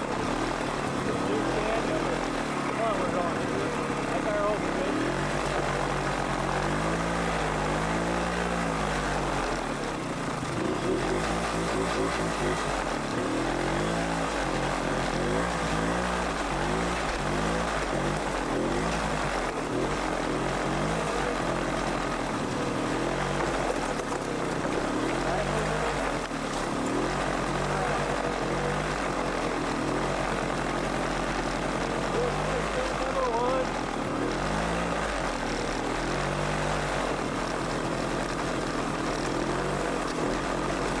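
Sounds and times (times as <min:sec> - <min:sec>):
atv engine revving: 0:00.0 - 0:41.0.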